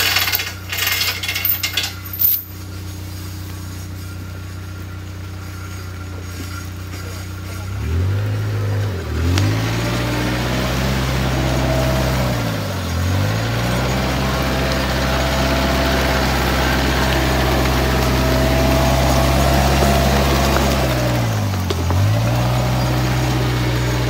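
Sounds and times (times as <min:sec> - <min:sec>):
wheel loader diesel engine running: 0:00.0 - 0:24.0.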